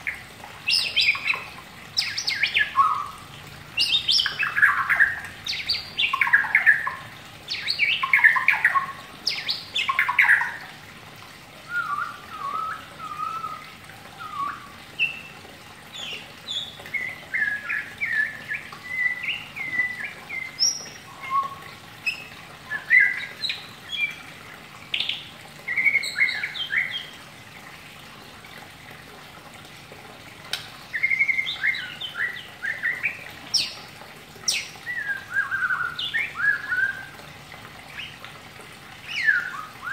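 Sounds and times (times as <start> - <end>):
bird chirps and trills: 0.0 - 10.7, 11.7 - 27.2, 30.5 - 37.1, 39.0 - 39.9.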